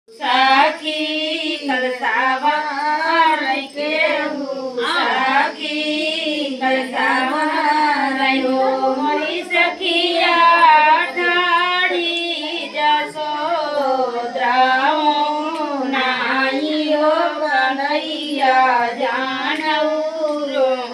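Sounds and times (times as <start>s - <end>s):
women singing unaccompanied: 0.1s - 20.9s.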